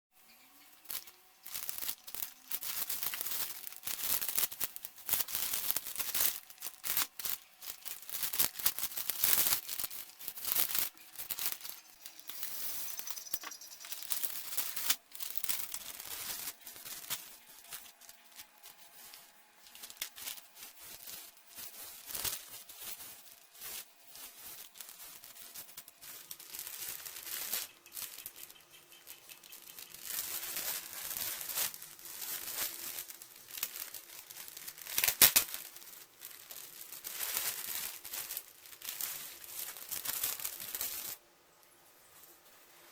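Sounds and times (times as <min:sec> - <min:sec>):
package wrapping ripped and rustled: 0:00.8 - 0:41.2.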